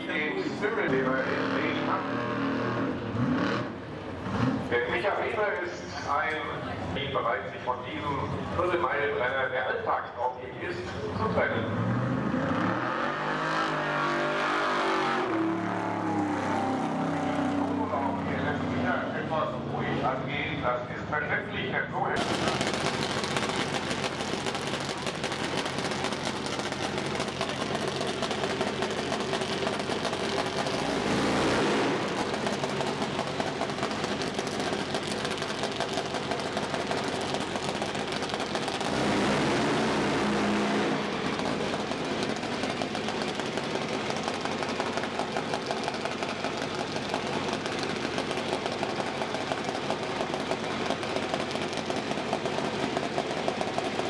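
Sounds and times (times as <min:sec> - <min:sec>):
car engines running: 0:00.0 - 0:54.0.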